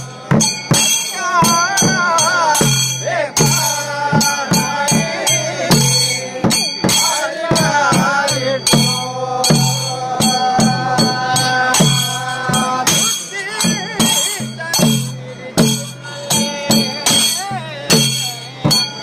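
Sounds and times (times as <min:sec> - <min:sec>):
drums beaten fast: 0:00.0 - 0:19.0
hand cymbals ringing: 0:00.0 - 0:19.0.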